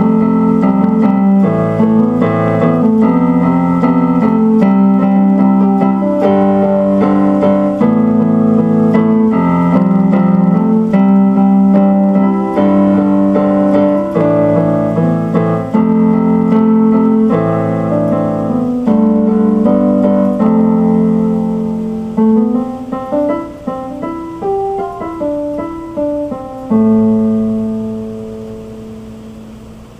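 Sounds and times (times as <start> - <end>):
electric keyboard piano music: 0.0 - 29.9.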